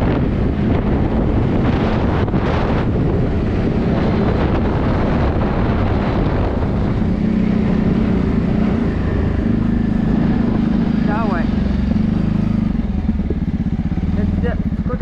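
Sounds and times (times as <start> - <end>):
atv engine running: 0.0 - 15.0
wind rushing on microphone: 0.0 - 15.0.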